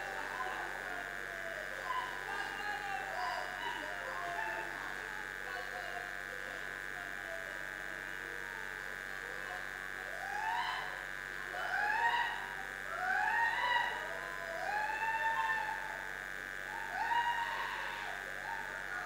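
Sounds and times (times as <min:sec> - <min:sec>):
faint voices: 0:00.0 - 0:19.0
steady high hum: 0:00.0 - 0:19.0.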